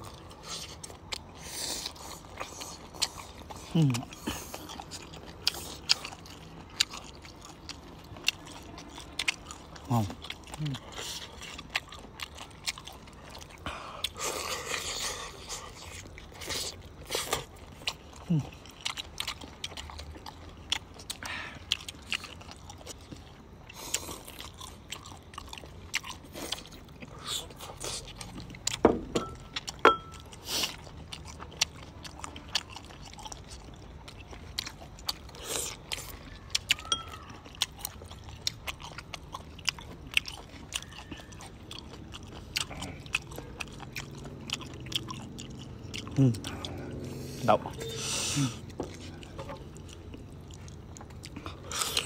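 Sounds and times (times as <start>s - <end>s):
sharp eating clicks: 0.0s - 47.8s, 48.4s - 52.0s
chewing squid: 0.0s - 52.0s.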